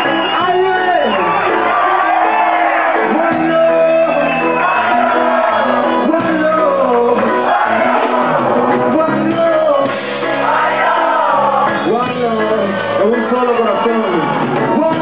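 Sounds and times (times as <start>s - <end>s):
crowd noise: 0.0s - 15.0s
live reggae band playing: 0.0s - 15.0s.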